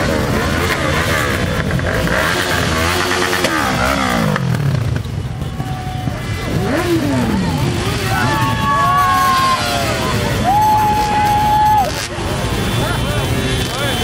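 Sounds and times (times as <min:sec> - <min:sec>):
motorcycles revving past: 0:00.0 - 0:12.4.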